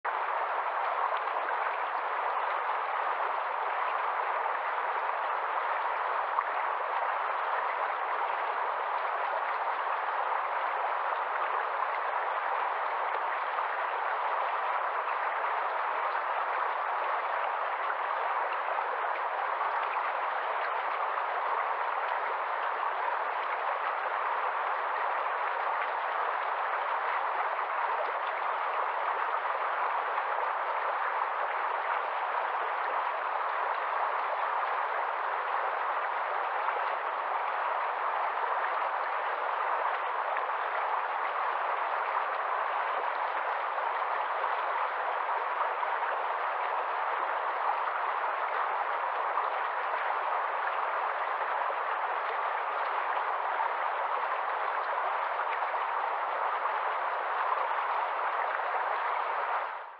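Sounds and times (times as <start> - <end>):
stream rushing over stones: 0.0 - 59.9.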